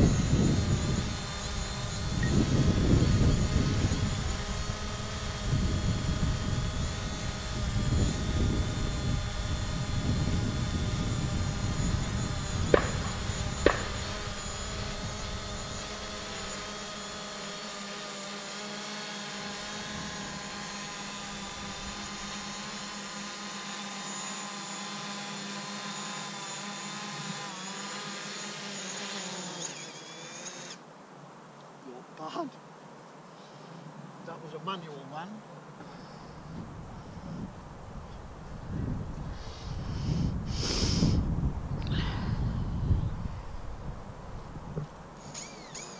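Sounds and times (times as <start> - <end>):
drone propellers whining: 0.0 - 30.8, 35.8 - 45.9.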